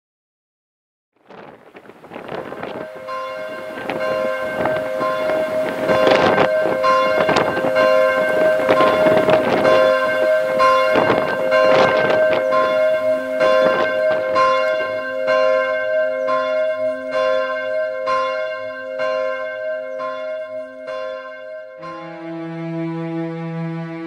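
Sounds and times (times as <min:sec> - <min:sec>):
low sustained musical notes: 0:01.4 - 0:24.0
church bell tolling: 0:02.0 - 0:24.0.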